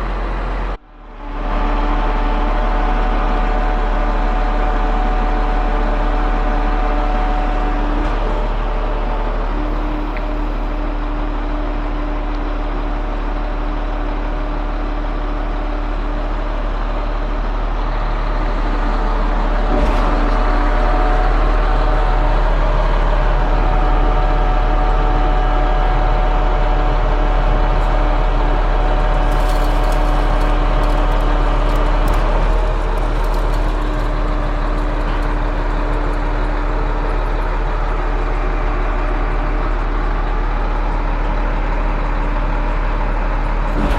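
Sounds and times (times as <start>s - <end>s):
diesel engine low hum: 0.0s - 43.9s.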